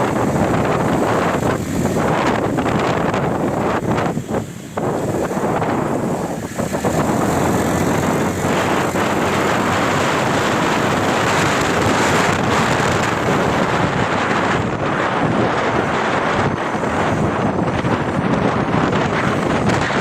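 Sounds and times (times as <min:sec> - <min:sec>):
tractor and hay baler running: 0:00.0 - 0:20.0
wind buffeting microphone: 0:00.0 - 0:20.0.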